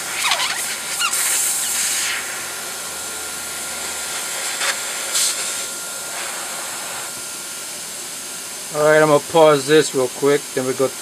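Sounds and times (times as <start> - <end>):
high-pressure air hissing: 0.0 - 10.9.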